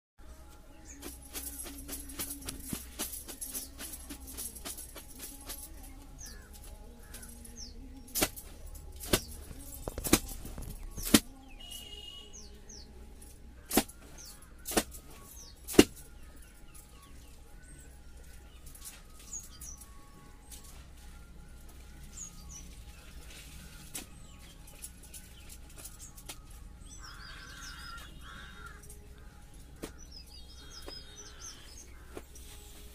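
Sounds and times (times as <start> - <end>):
small birds chirping: 0.6 - 32.9.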